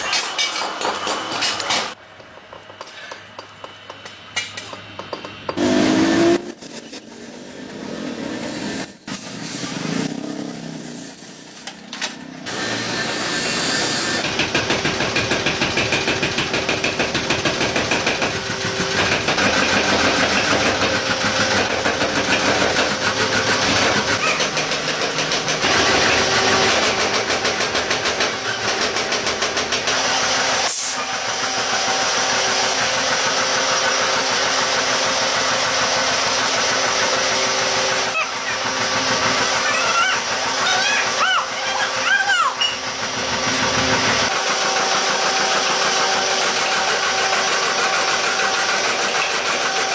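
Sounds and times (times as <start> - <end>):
workshop machine clattering: 0.0 - 5.6, 8.8 - 12.6, 13.9 - 30.5, 31.2 - 49.9.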